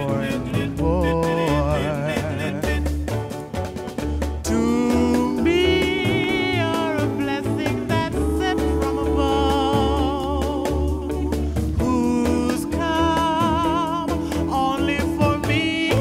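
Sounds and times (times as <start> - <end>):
song with low beat: 0.0 - 16.0.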